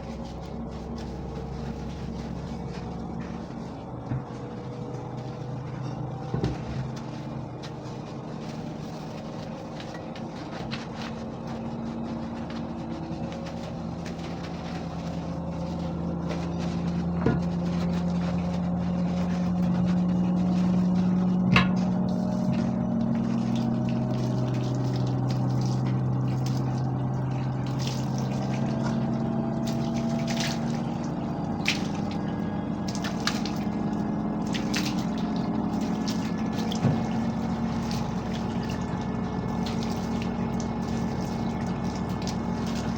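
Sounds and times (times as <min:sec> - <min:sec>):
steam cleaner pump humming: 0:00.0 - 0:42.9.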